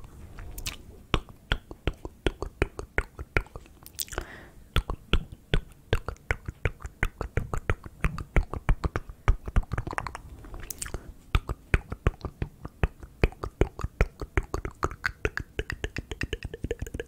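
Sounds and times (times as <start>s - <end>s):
wet lip and tongue clicks: 0.5s - 17.0s.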